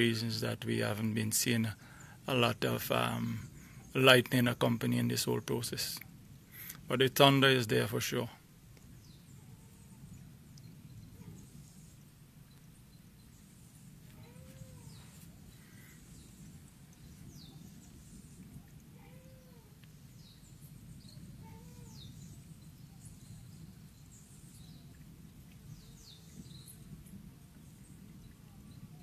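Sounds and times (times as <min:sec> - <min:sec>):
birds chirping: 0:00.0 - 0:29.0
faint low rumble: 0:00.0 - 0:29.0.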